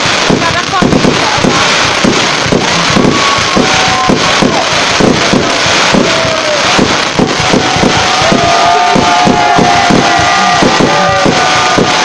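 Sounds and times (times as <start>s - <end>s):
fireworks bangs and crackles: 0.0s - 12.0s
fireworks whistling: 0.0s - 12.0s.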